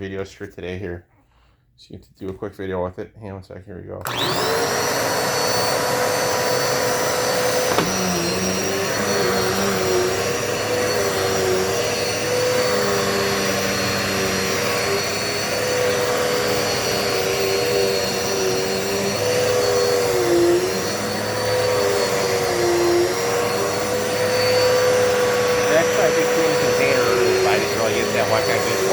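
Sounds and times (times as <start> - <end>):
vacuum cleaner motor whine: 4.0 - 28.9.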